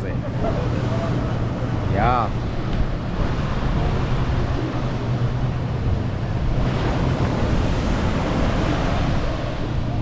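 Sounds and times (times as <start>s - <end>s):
ocean surf: 0.0s - 10.0s
wind buffeting microphone: 0.0s - 10.0s.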